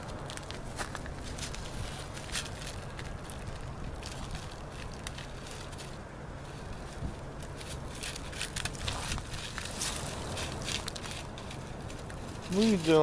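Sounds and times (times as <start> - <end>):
dry leaves and twigs crackling: 0.0 - 13.0
steady low rumble: 0.0 - 13.0.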